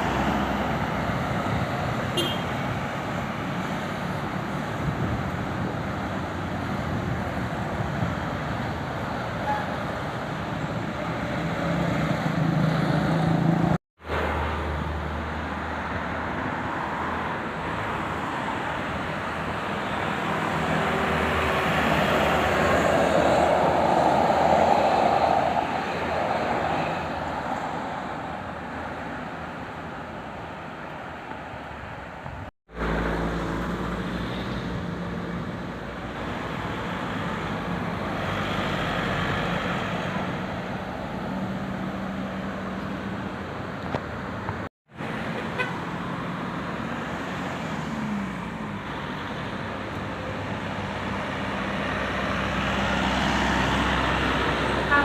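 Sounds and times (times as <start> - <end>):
vehicle passing close by: 0.0 - 29.0, 32.7 - 43.3, 44.9 - 55.0
road traffic noise: 0.0 - 55.0.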